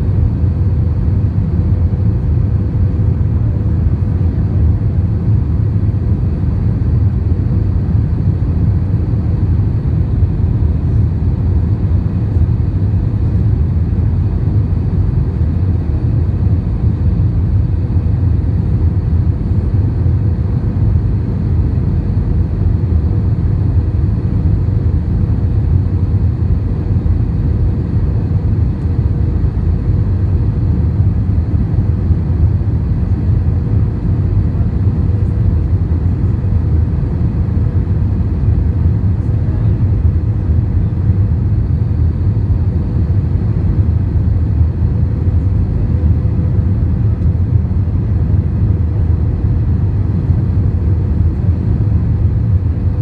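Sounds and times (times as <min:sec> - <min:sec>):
faint steady hum: 0:00.0 - 0:53.0
rumble of engines and airflow: 0:00.0 - 0:53.0.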